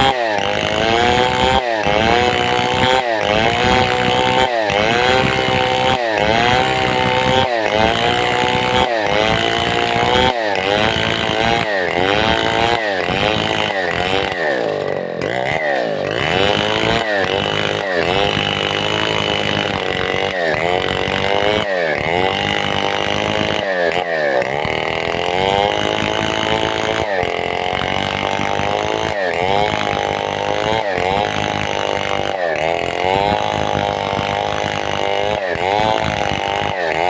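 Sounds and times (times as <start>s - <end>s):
chainsaw cutting log: 0.0s - 37.0s.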